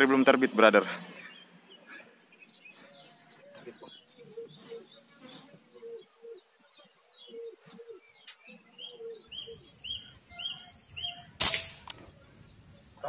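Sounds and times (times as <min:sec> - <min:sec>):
bird high chirps: 0:00.0 - 0:13.0.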